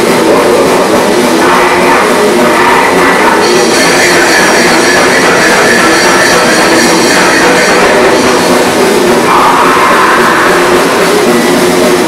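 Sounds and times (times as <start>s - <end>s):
electric guitar: 0.0s - 12.0s.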